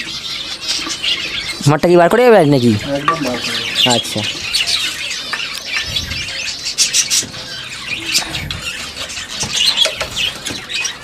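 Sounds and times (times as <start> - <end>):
small cage birds chirping: 0.0 - 11.0.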